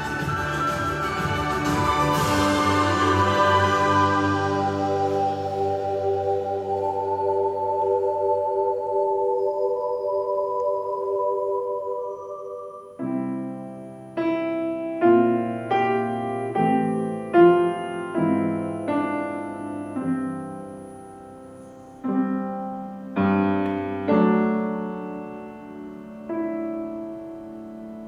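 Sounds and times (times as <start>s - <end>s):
piano chords ringing: 0.0s - 28.0s.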